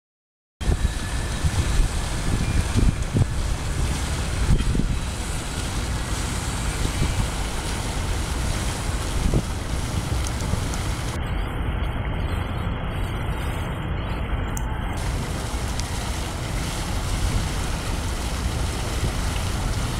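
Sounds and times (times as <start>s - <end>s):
fountain water splashing: 0.6s - 19.9s
low rumble: 0.6s - 19.9s.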